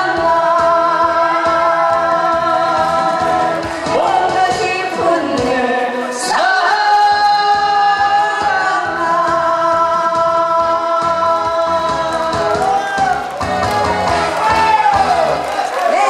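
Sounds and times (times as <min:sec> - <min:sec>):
backing music: 0:00.0 - 0:16.0.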